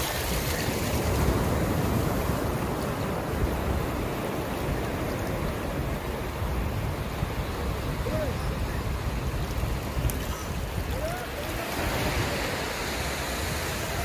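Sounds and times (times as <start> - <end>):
surf washing over sandy beach: 0.0 - 14.0
wind on microphone: 0.0 - 14.0.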